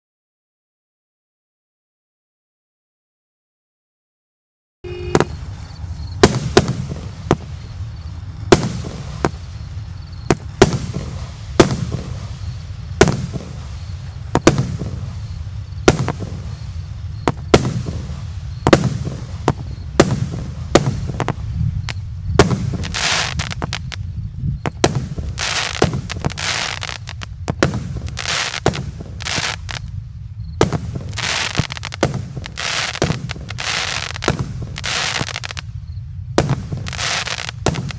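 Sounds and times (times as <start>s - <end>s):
firework crackle hissing: 4.9s - 37.9s
firework launch and burst bangs: 5.0s - 37.9s.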